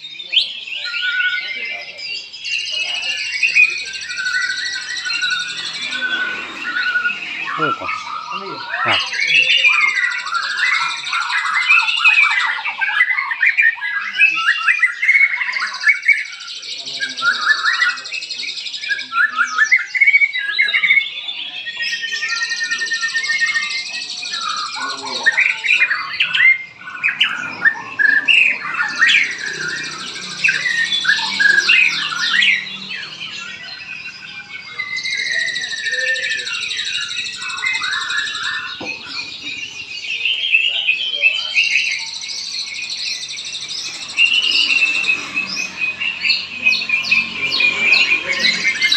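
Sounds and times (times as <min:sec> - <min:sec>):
caged songbirds singing: 0:00.0 - 0:48.9.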